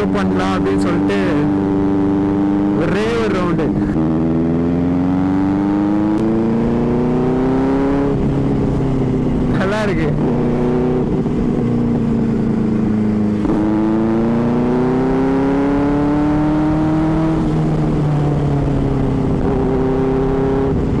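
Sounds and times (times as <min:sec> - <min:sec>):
motorbike engine accelerating: 0:00.0 - 0:21.0.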